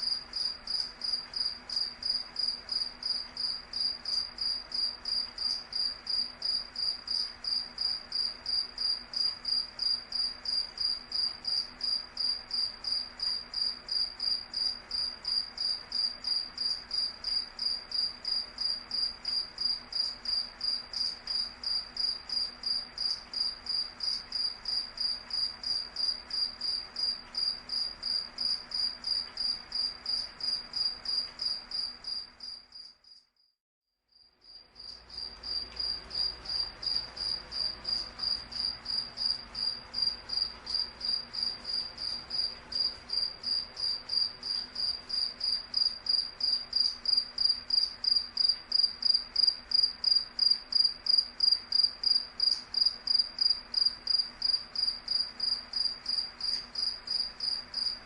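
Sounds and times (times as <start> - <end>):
cricket chirping: 0.0 - 33.5, 34.1 - 58.0.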